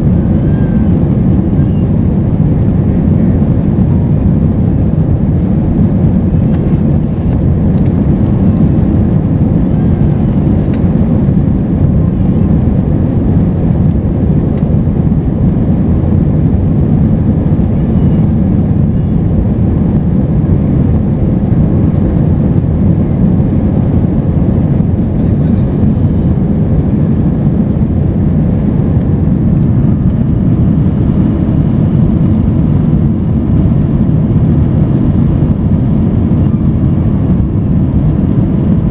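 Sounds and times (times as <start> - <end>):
jet engine roar in cabin: 0.0 - 38.9.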